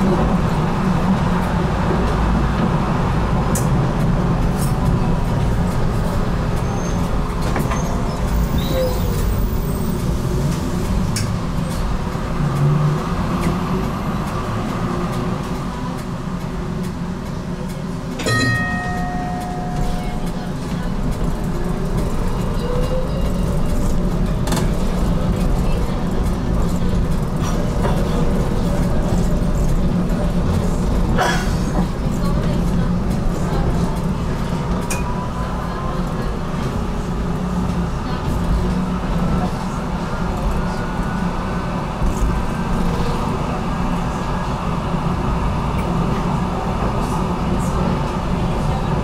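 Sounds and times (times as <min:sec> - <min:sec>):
tram wheels rumbling on rails: 0:00.0 - 0:49.0.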